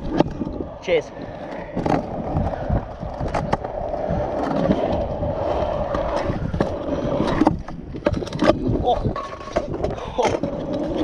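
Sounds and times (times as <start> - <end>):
scooter wheels rolling: 0.0 - 11.0.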